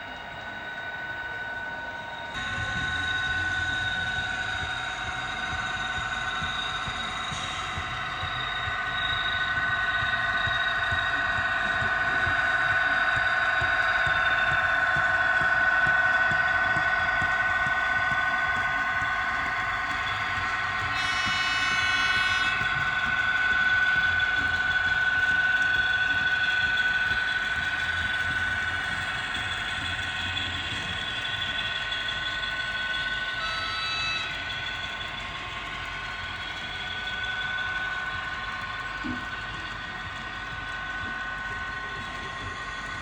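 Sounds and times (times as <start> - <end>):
model train motors whining: 0.1 - 43.0.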